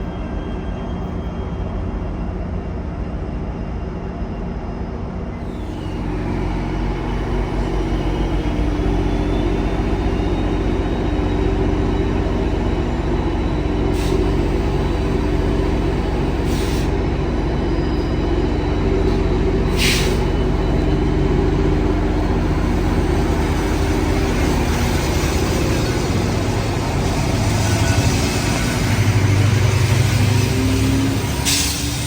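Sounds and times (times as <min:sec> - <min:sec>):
rail cars rumbling: 0:00.0 - 0:32.0
train engine drone: 0:00.0 - 0:32.0.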